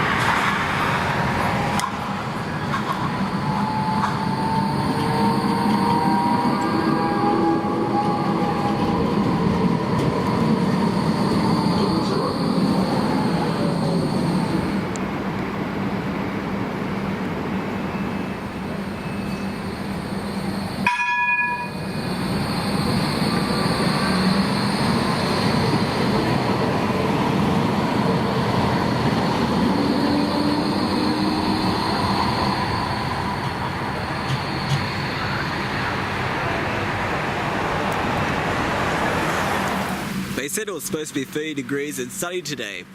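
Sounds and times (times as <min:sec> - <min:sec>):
tram rail and wheel noise: 0:00.0 - 0:42.9.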